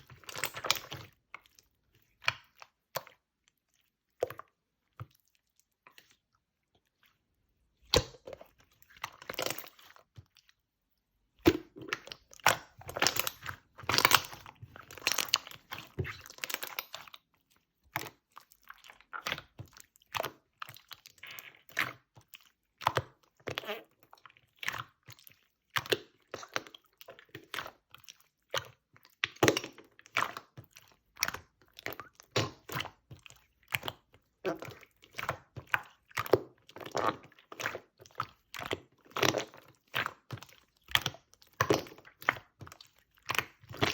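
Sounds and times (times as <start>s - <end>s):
slime squished by hand: 7.8s - 43.9s.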